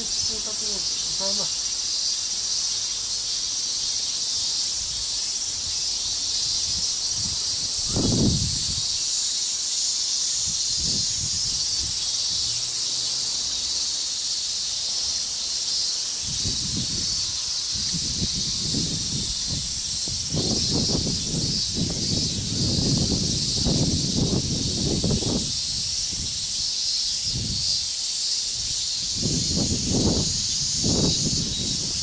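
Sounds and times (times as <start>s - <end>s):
high-pitched insect chorus: 0.0s - 32.0s.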